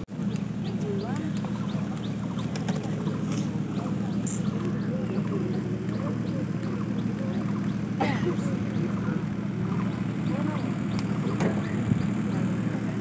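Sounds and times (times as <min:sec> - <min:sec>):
distant voices: 0:00.0 - 0:13.0
outdoor crowd murmur: 0:00.0 - 0:13.0.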